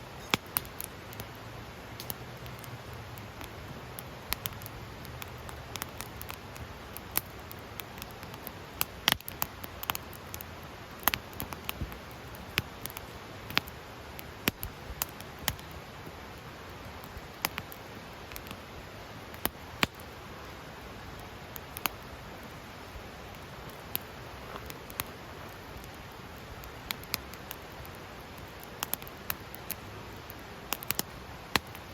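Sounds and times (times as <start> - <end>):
steady fire hiss: 0.0 - 31.9
wood fire crackling and popping: 0.1 - 31.9.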